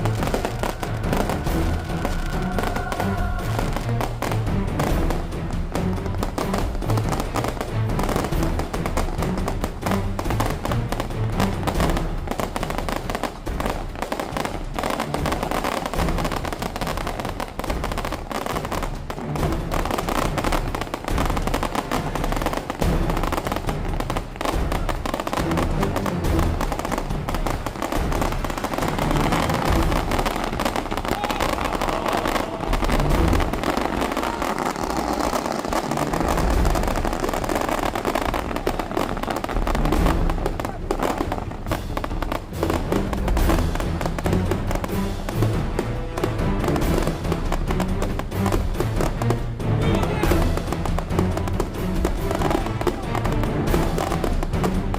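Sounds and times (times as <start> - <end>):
firecrackers crackling: 0.0 - 54.9
music: 0.0 - 54.9.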